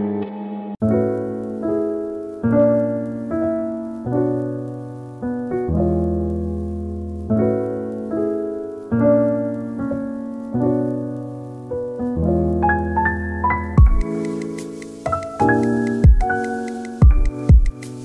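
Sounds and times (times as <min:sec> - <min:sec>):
soft piano chords: 0:00.8 - 0:18.0.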